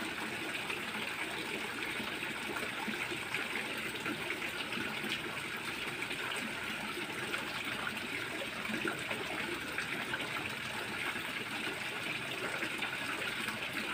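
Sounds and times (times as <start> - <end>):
water pouring into pond: 0.0 - 13.9.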